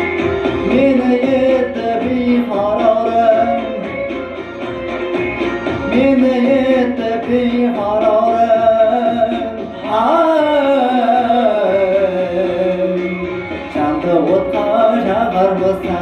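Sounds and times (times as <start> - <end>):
man singing long notes: 0.6 - 4.2, 5.9 - 16.0.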